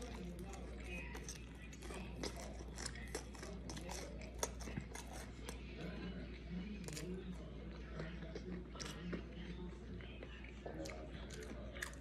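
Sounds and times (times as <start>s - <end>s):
close chewing: 0.0s - 12.0s
low steady hum: 0.0s - 12.0s.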